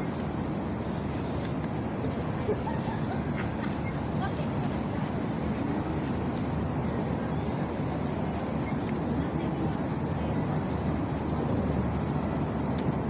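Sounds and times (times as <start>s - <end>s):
city background rumble: 0.0s - 13.0s.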